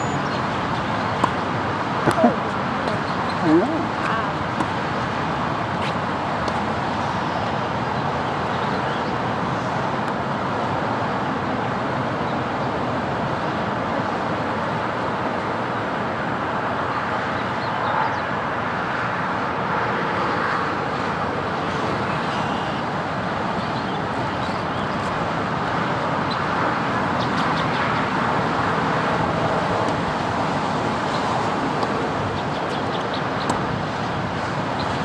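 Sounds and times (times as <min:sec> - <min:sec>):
steady background noise: 0:00.0 - 0:35.0.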